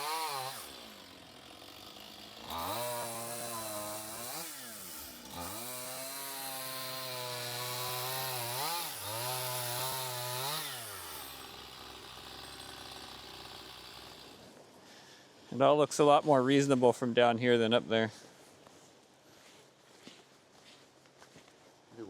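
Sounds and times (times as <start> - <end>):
chainsaw cutting: 0.0 - 18.3.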